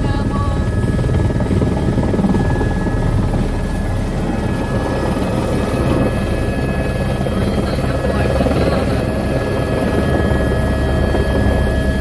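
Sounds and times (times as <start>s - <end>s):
helicopter rotor and engine: 0.0s - 12.0s
thin steady whine: 0.0s - 12.0s.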